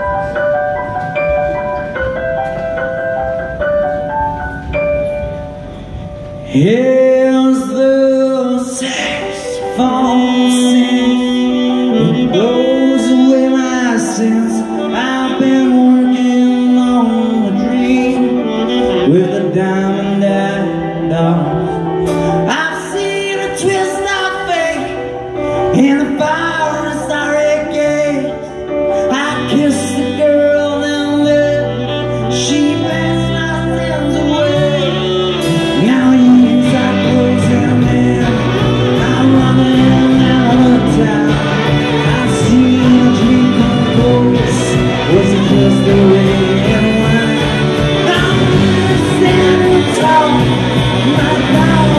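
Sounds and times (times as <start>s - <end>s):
rock band playing live: 0.0s - 51.9s
person singing: 6.3s - 51.9s.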